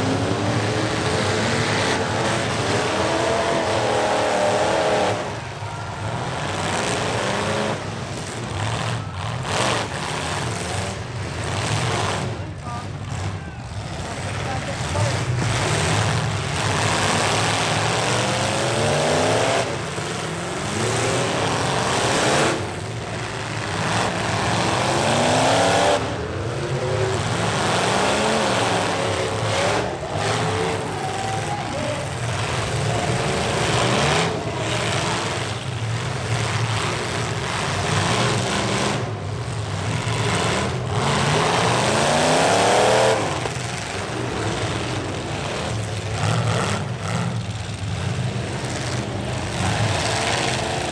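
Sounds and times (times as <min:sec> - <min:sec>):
truck engines revving hard: 0:00.0 - 0:50.9.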